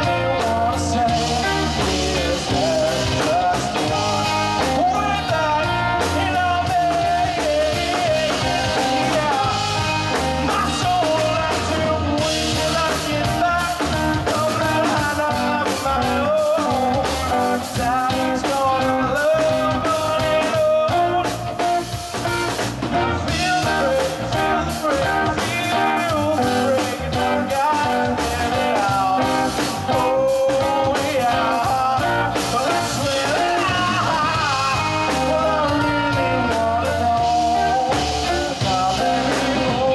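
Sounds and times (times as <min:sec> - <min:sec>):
bass guitar: 0:00.0 - 0:39.9
drum kit: 0:00.0 - 0:39.9
electric guitars: 0:00.0 - 0:39.9
man singing: 0:00.0 - 0:39.9.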